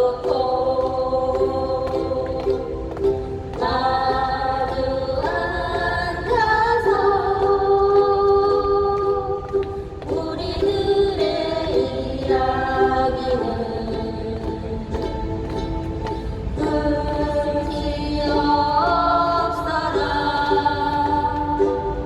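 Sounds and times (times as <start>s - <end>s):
group singing in unison: 0.0s - 22.0s
ukuleles strumming: 0.0s - 22.0s.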